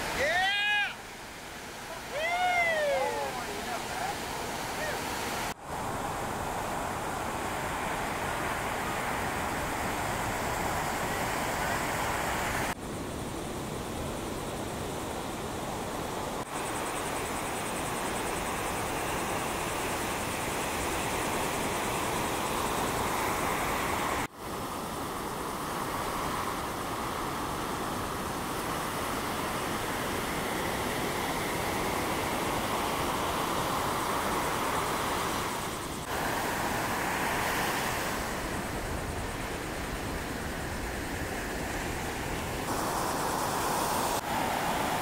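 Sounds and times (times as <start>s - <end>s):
ocean waves breaking: 0.0s - 14.7s, 15.4s - 45.0s
wind: 0.0s - 45.0s.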